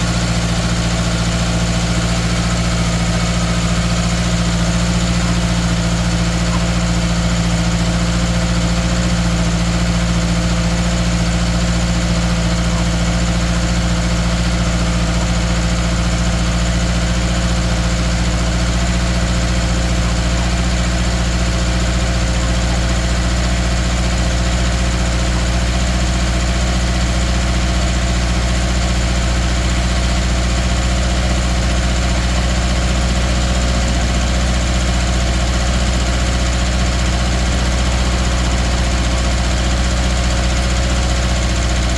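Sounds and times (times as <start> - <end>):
car engine idling with misfire: 0.0 - 41.9.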